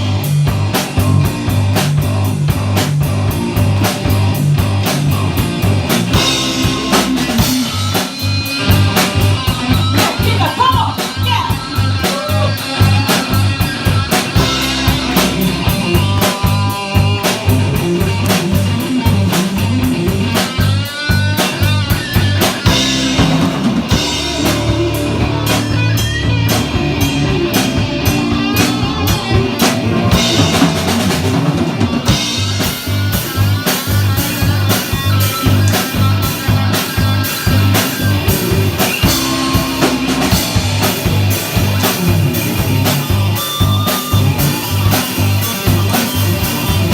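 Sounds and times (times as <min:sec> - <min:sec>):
gliding lead guitar lines: 0:00.0 - 0:46.9
rock band playing: 0:00.0 - 0:46.9.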